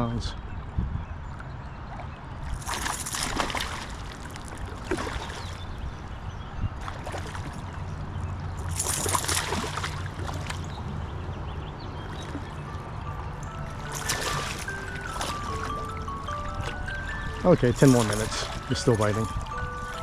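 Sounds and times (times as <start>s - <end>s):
low rumble of flowing water: 0.0s - 20.0s
water splashing and sloshing: 1.2s - 20.0s.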